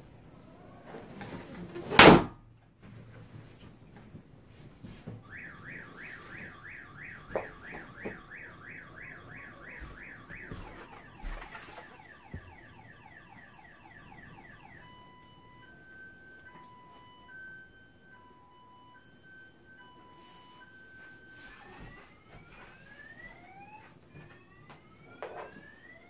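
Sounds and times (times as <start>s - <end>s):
car alarm siren: 0.0s - 1.3s, 4.8s - 26.0s.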